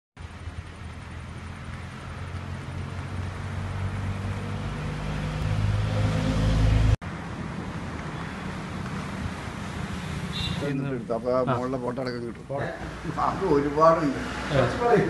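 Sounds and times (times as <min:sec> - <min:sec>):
outdoor background hiss: 0:00.2 - 0:06.0, 0:07.0 - 0:15.0
vehicle engine humming: 0:00.2 - 0:15.0.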